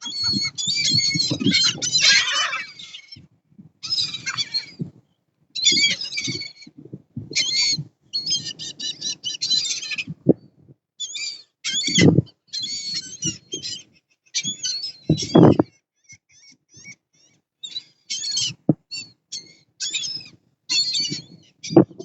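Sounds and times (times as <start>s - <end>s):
birds calling harshly: 0.0s - 4.9s, 5.6s - 10.2s, 11.0s - 15.6s, 16.7s - 22.0s.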